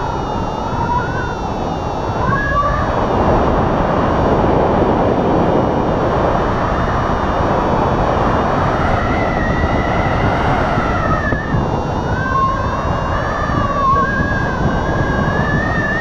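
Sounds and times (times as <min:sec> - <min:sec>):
faint wavering tone: 0:00.0 - 0:16.0
wind rushing over microphone: 0:00.0 - 0:16.0.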